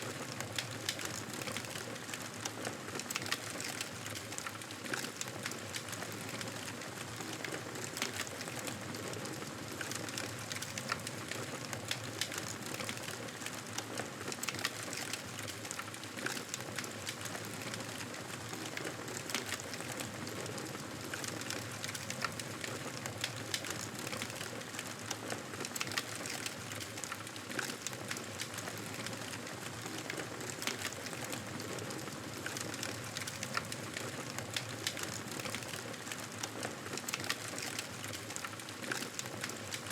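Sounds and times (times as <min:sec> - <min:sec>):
wood fire crackling: 0:03.0 - 0:39.9.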